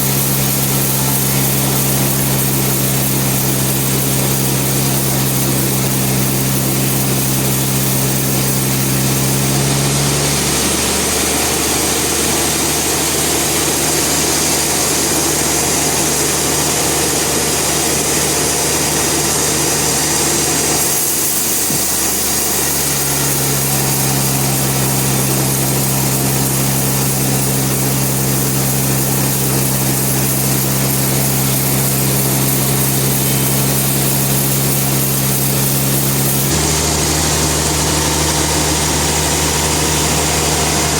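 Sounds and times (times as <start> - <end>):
band sawmill humming: 0.0 - 40.9
rough noisy sawing sound: 0.0 - 40.9.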